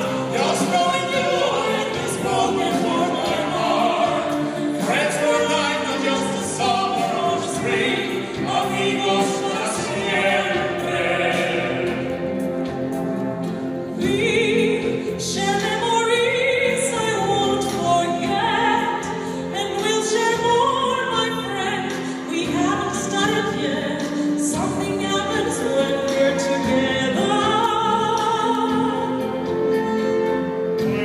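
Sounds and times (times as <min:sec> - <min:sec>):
woman singing operatically: 0:00.0 - 0:11.5, 0:14.0 - 0:29.6
orchestra playing: 0:00.0 - 0:31.0.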